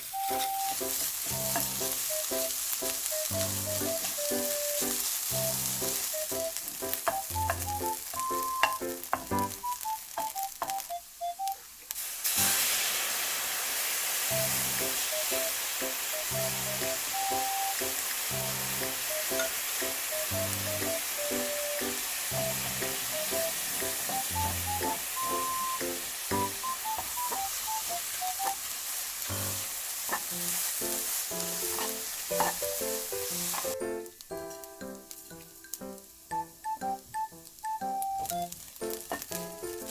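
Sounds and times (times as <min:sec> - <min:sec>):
light background music: 0:00.0 - 0:11.6, 0:14.3 - 0:28.6, 0:31.3 - 0:39.9
food sizzling in frying pan: 0:00.0 - 0:39.9.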